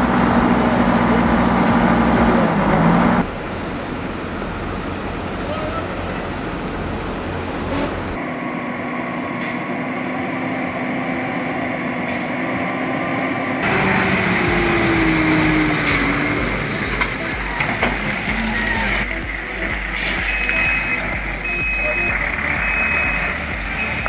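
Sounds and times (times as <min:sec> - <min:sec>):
falling whine: 0:00.0 - 0:24.0
heavy vehicle engine running: 0:00.0 - 0:24.0.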